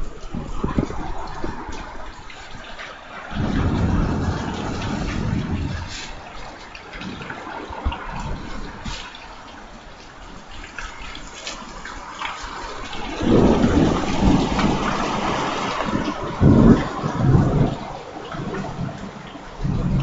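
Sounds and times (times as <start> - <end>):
thunder rumbling: 0.0 - 9.2, 12.8 - 20.0
heavy rain falling: 0.0 - 20.0.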